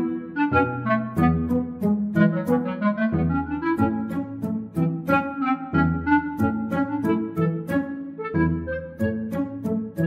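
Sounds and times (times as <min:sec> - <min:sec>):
bowed-string melody: 0:00.0 - 0:10.0.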